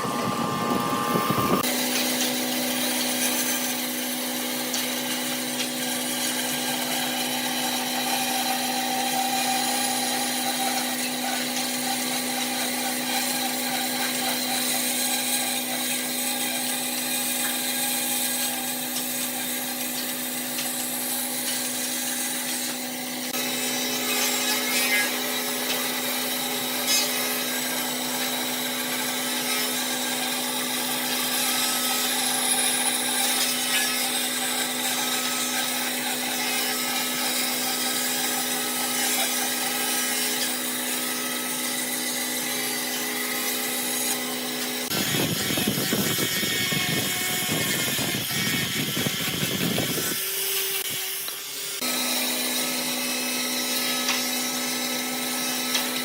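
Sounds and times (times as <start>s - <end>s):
power tool humming on wood: 0.0s - 56.0s.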